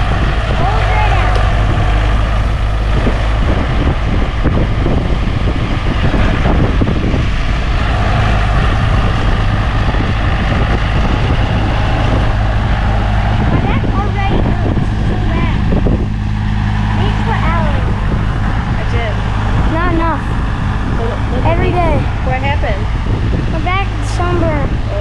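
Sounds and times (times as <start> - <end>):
tractor engine running: 0.0 - 25.0
wind rumbling on microphone: 0.0 - 25.0.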